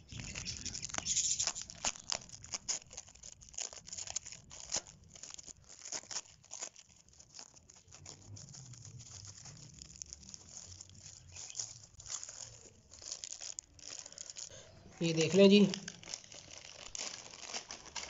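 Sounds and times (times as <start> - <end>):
foam wrap crackling: 0.0 - 18.0
packing tape tearing: 0.6 - 18.0.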